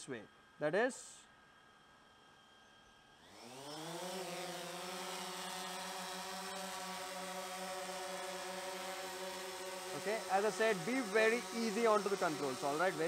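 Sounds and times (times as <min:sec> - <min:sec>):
drone motors and propellers humming: 0:00.2 - 0:13.0.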